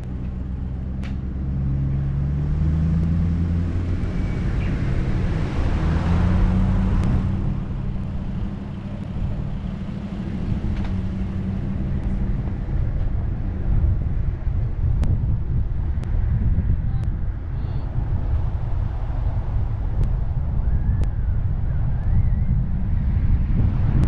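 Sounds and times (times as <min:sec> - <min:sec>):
car engine drone: 0:00.0 - 0:24.0
road rumble: 0:00.0 - 0:24.0.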